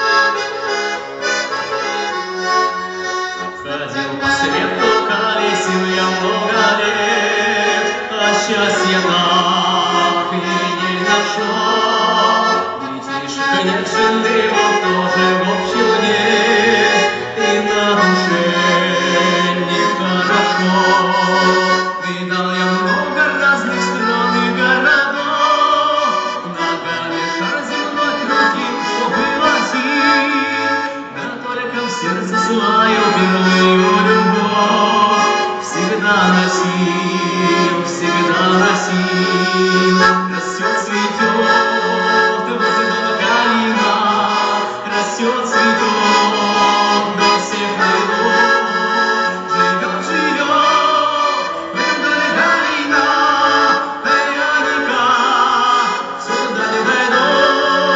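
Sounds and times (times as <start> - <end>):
accordion playing tune: 0.0 - 57.9.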